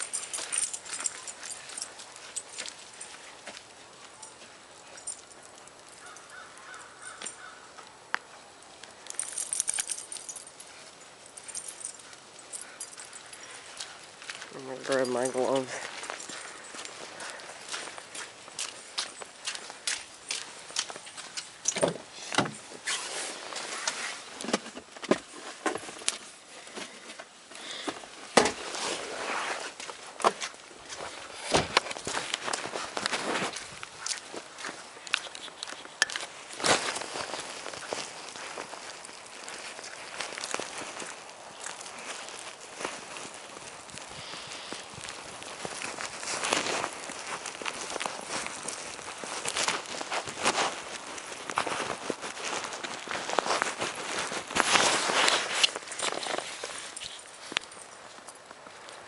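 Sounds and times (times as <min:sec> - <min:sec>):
footsteps crunching on snow: 0:08.9 - 0:59.0.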